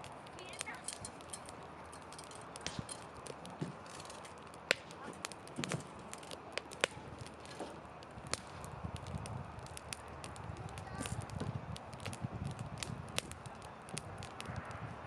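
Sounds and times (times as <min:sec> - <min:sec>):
low rustle of burning: 0:00.0 - 0:15.0
wood fire pops and snaps: 0:00.0 - 0:15.0.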